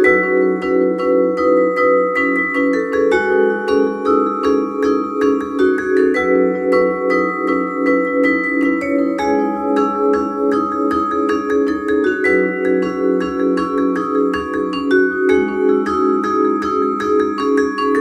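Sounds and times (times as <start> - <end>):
vibraphone playing fast notes: 0.0 - 18.0.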